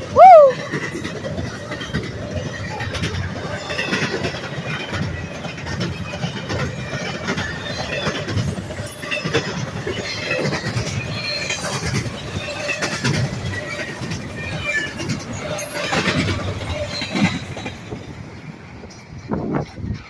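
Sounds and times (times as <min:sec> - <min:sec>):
train wheels clattering over rails: 0:00.0 - 0:20.0
wheel on rail squeaks: 0:00.5 - 0:20.0.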